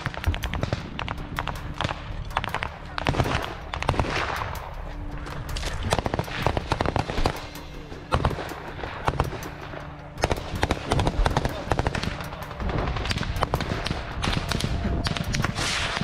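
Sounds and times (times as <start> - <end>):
gunfire shots and bursts: 0.0 - 4.8, 5.6 - 16.0.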